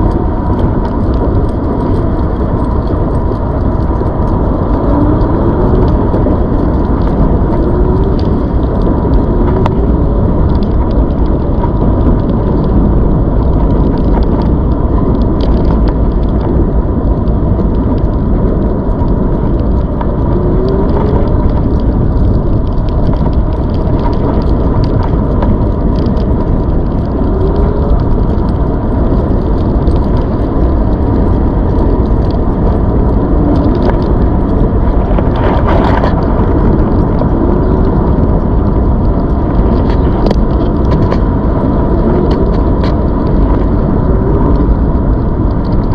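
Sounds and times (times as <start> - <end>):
electric bike rumbling and rattling: 0.0 - 45.9.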